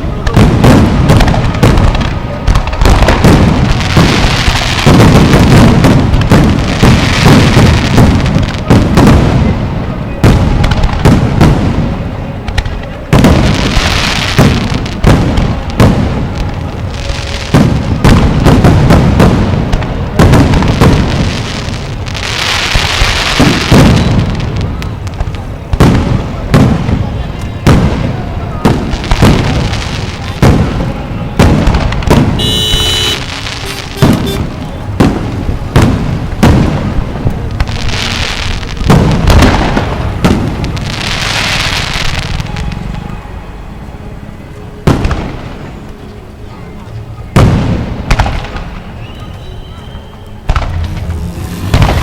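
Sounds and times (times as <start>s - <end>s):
fireworks bangs and booms: 0.0s - 43.2s, 44.3s - 45.9s, 47.0s - 52.0s
fireworks crackling: 0.0s - 52.0s.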